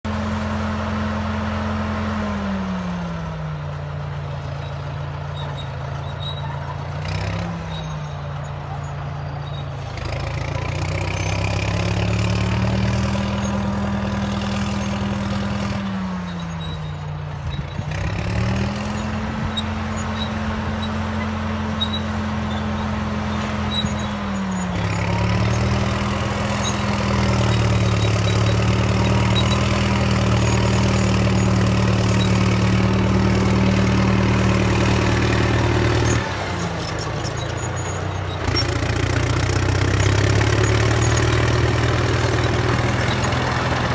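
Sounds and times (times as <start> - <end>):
bulldozer diesel engine under load: 0.0 - 43.9.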